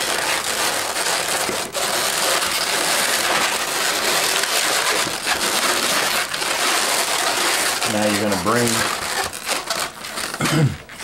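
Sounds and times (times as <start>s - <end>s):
rubber balloons squeaking and rubbing: 0.0s - 11.0s.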